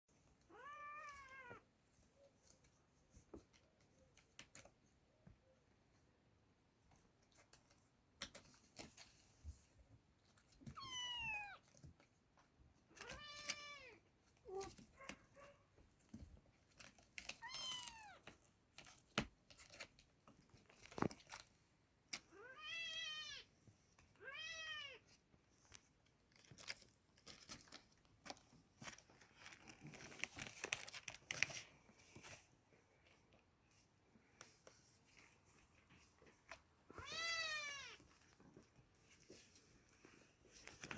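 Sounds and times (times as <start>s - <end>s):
small clicks and rustles: 0.1s - 24.3s, 24.9s - 40.9s.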